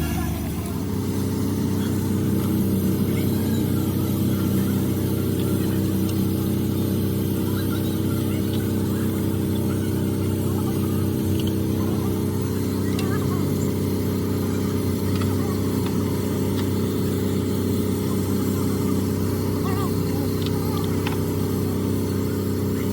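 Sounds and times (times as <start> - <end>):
low engine drone: 0.0 - 22.9.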